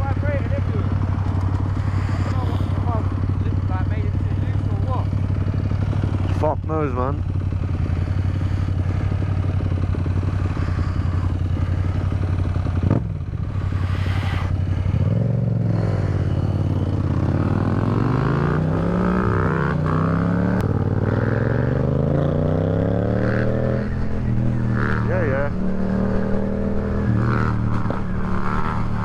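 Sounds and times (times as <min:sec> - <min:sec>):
motorcycle engine idling and revving: 0:00.0 - 0:29.0.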